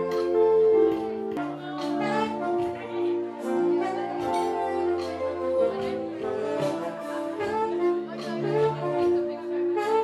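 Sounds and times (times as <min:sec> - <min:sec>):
saxophone slow melody: 0:00.0 - 0:10.0.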